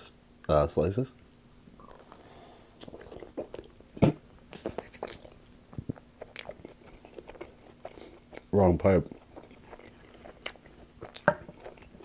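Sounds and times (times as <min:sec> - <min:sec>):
biting and chewing pizza: 0:01.8 - 0:12.0.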